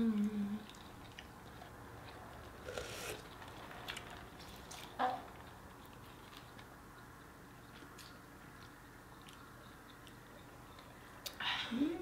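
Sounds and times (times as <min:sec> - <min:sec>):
chewing chicken wings: 0:00.2 - 0:11.0.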